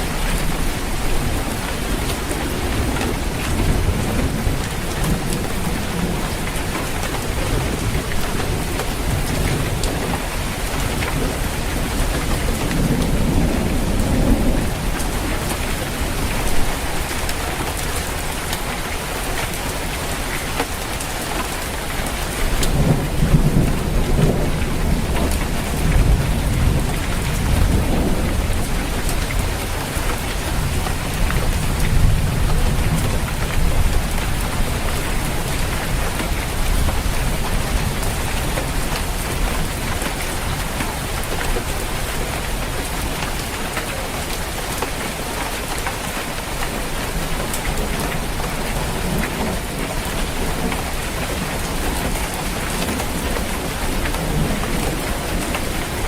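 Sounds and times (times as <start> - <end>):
thunder rumbling: 0.0 - 45.2
rain falling on a roof: 0.0 - 56.0.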